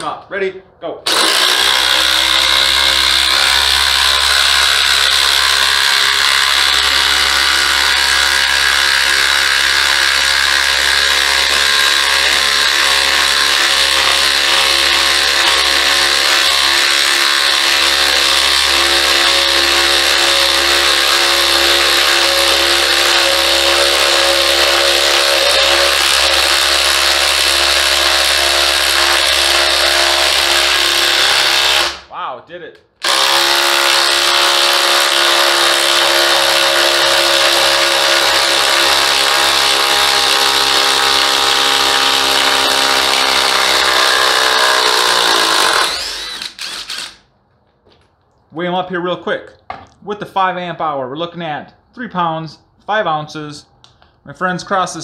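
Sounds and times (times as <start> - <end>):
impact driver hammering: 1.1 - 32.0, 33.0 - 47.2.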